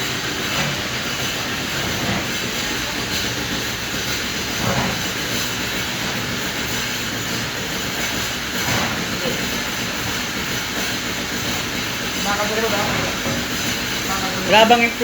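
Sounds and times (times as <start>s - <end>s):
truck vacuum pump and engine: 0.0s - 15.0s.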